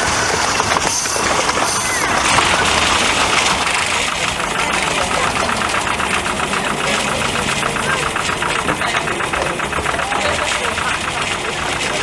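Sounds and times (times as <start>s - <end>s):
diesel locomotive engine chugging: 0.0s - 12.0s
train wheels on track: 0.0s - 12.0s.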